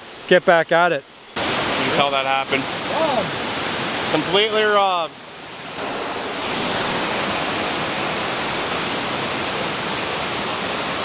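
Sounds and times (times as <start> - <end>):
river water pouring over dam: 0.0 - 11.0.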